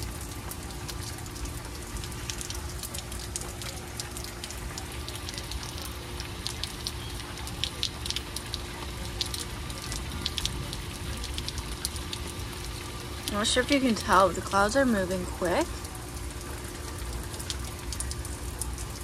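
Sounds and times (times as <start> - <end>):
heavy rain falling: 0.0 - 19.0
raindrops tapping nearby: 0.0 - 19.0.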